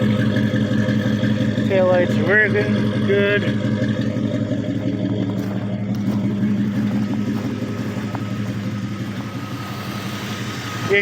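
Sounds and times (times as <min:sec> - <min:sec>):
engine idling with low rumble: 0:00.0 - 0:11.0.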